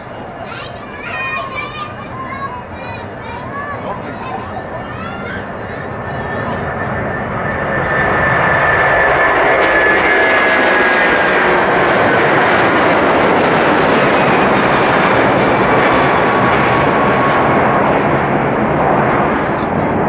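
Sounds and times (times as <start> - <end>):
faint engine whine: 0.0 - 20.0
jet engines at take-off thrust: 0.0 - 20.0.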